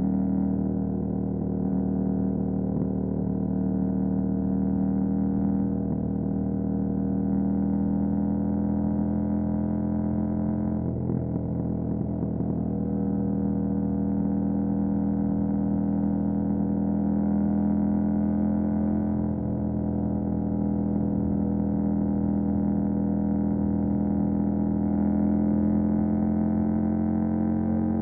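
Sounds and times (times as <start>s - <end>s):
motorcycle engine running steadily: 0.0s - 28.0s.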